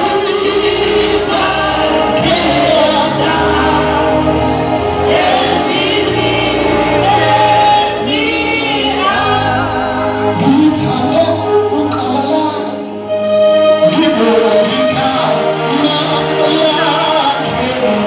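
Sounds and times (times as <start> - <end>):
gospel singing: 0.0 - 18.0
instrumental backing: 0.0 - 18.0.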